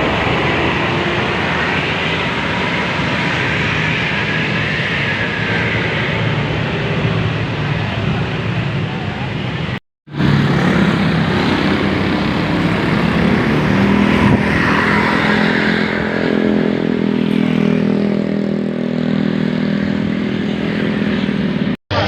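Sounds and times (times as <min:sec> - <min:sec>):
heavy vehicle passing: 0:00.0 - 0:22.0
road noise: 0:00.0 - 0:22.0.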